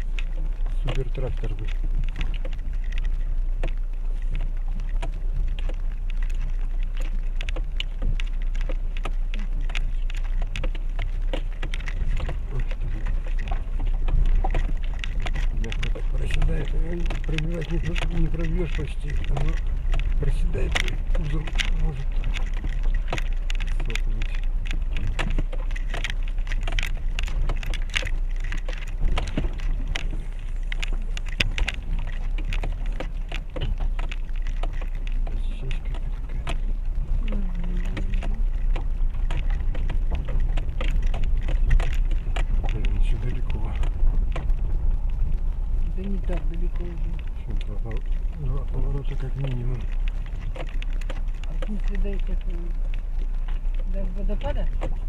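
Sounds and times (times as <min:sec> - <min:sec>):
car engine low rumble: 0:00.0 - 0:55.0
suspension knocks and rattles: 0:00.0 - 0:55.0
tyres crunching over stones: 0:00.0 - 0:55.0.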